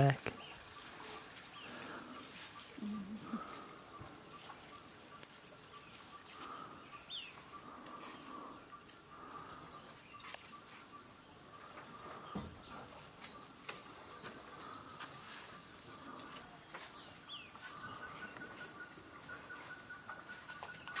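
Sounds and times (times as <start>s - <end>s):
insects droning: 0.0s - 21.0s
bird chirps and calls: 0.3s - 21.0s.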